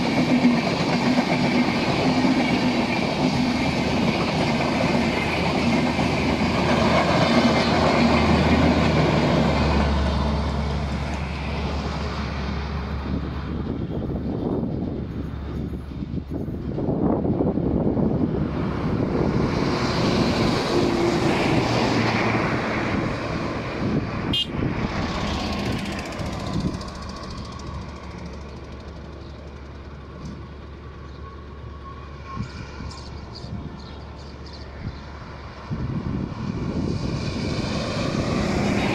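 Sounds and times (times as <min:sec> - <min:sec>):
passenger train running: 0:00.0 - 0:38.9.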